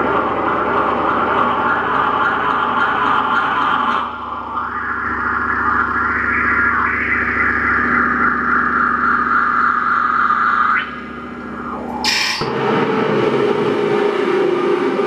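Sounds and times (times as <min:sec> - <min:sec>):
buzzing noise drone: 0:00.0 - 0:15.0.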